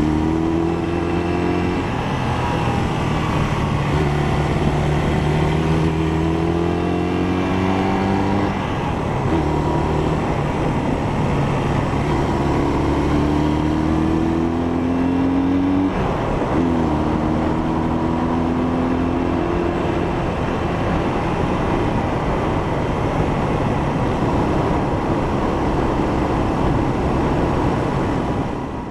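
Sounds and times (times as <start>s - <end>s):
motorcycle engine shifting gears: 0.0s - 28.6s.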